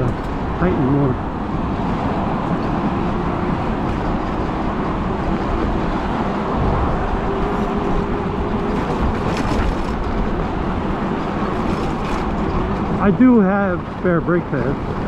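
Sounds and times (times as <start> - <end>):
road noise: 0.0 - 15.0
wind rumble on microphone: 0.0 - 15.0.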